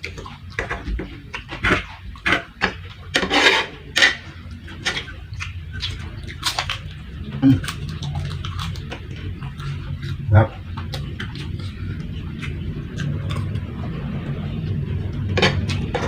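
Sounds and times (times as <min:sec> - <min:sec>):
chewing and mouth noises: 0:00.0 - 0:03.2, 0:03.8 - 0:16.0.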